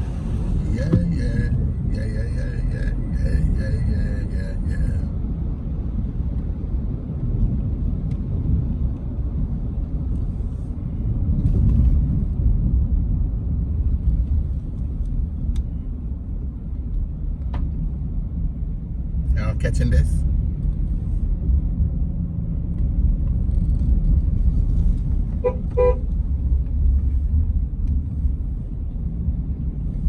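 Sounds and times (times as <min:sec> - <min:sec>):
vehicle road rumble: 0:00.0 - 0:30.0.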